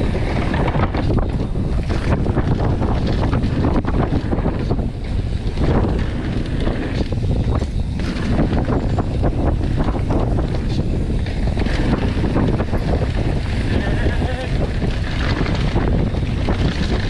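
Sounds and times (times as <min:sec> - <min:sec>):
bike knocks and rattles: 0:00.0 - 0:17.0
tyres rumbling on dirt: 0:00.0 - 0:17.0
wind rushing over microphone: 0:00.0 - 0:17.0.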